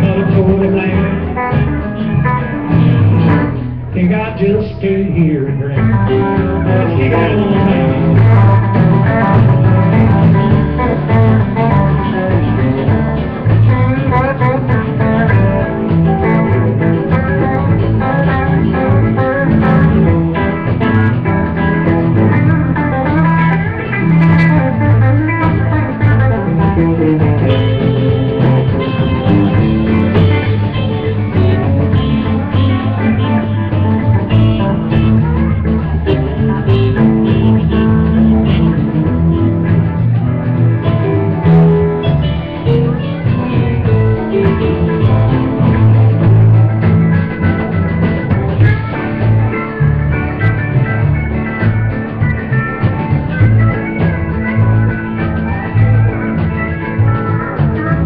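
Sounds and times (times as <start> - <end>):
lead guitar: 0.0 - 58.0
live country band playing: 0.0 - 58.0.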